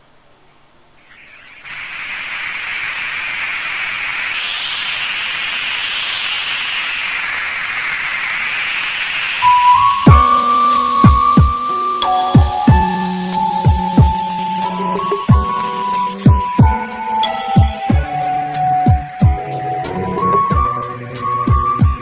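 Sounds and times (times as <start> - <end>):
steady hissing wind: 0.0 - 22.0.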